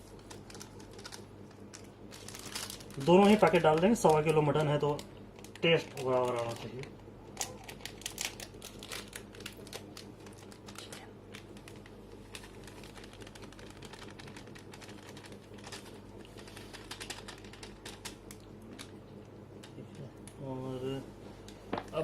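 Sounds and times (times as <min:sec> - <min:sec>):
spice packet crinkling: 0:00.0 - 0:19.0.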